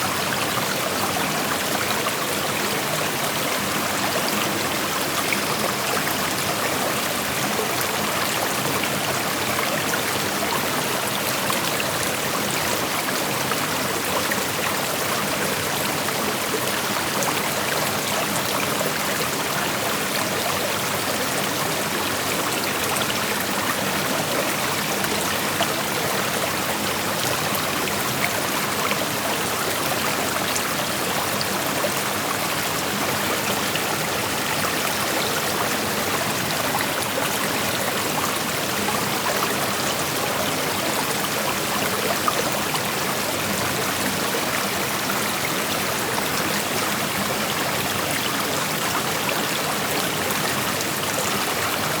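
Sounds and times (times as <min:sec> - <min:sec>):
creek water flowing over rocks: 0:00.0 - 0:52.0.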